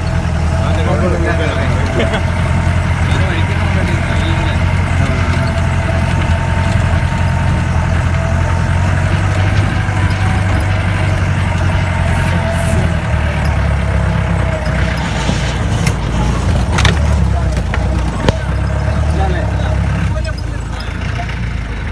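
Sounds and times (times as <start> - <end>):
vehicle engine under load: 0.0 - 21.9.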